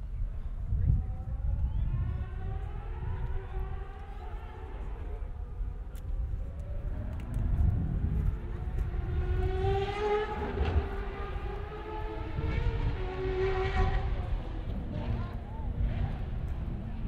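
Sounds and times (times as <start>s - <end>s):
distant race car engine: 0.8s - 17.0s.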